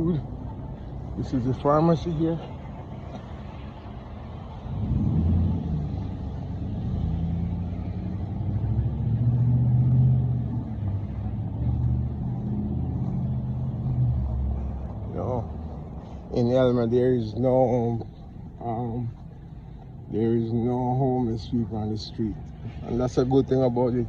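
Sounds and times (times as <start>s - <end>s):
street traffic: 0.0s - 24.0s
vehicle engine running: 0.0s - 24.0s.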